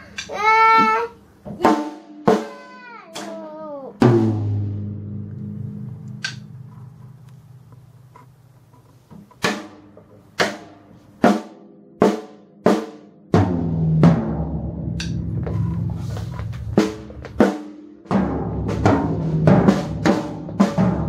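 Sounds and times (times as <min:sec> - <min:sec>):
drum kit hits: 0:00.8 - 0:03.4, 0:04.0 - 0:06.7, 0:09.4 - 0:21.0.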